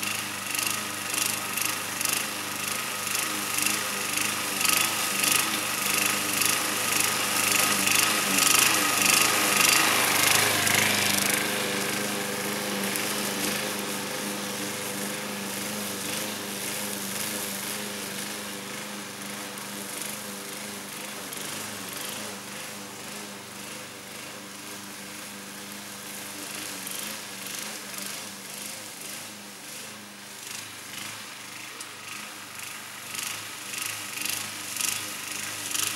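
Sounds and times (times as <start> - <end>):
push mower cutting grass: 0.0 - 35.9.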